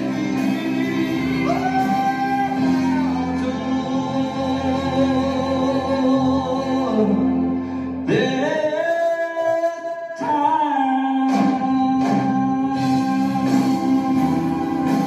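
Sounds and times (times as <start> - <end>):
country band playing live: 0.0 - 15.0
man singing long notes: 0.0 - 15.0.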